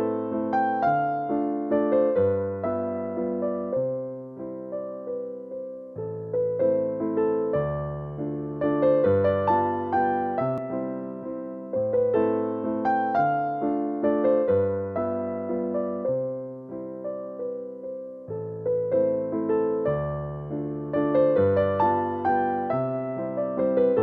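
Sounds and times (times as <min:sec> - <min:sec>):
gentle piano tune: 0:00.0 - 0:24.0.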